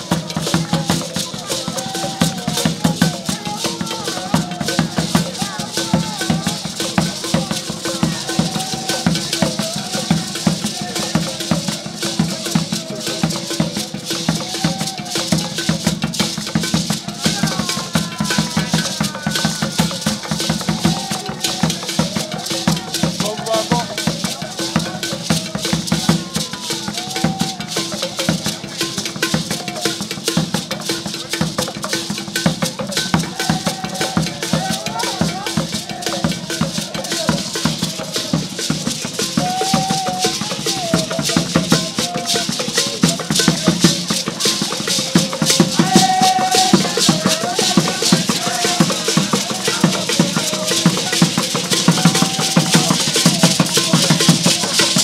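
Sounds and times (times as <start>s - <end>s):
drum beating: 0.0s - 55.0s
hand rattles shaking: 0.0s - 55.0s
voices singing and calling: 0.0s - 55.0s.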